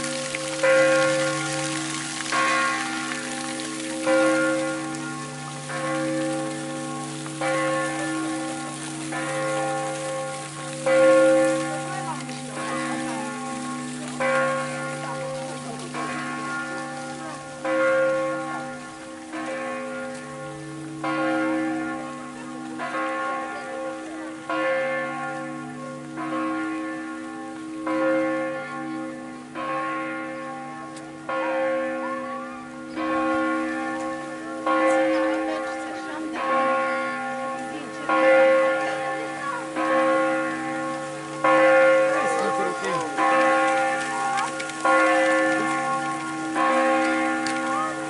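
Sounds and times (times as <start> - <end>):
church bells pealing: 0.0 - 48.0.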